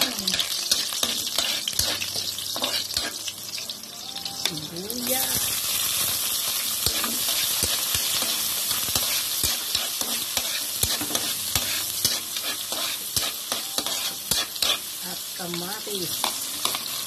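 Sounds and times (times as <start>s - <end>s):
garlic and onion sizzling in oil: 0.0s - 17.0s.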